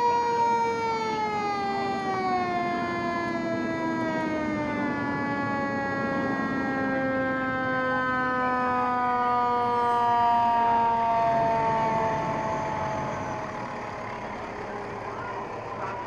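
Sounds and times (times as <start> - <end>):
fire engine siren falling tone: 0.0 - 16.0.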